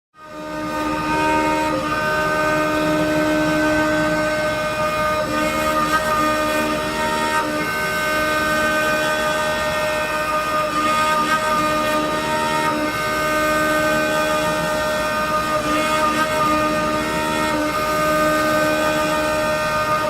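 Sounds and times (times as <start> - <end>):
lathe whining and rumbling: 0.2 - 20.0.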